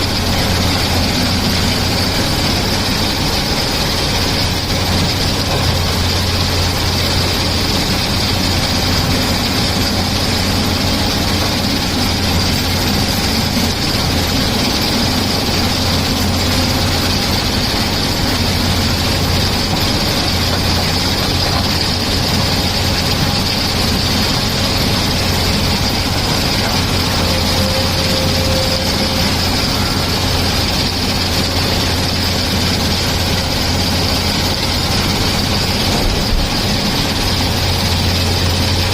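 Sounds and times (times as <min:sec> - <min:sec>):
excavator diesel engine humming: 0:00.0 - 0:38.9.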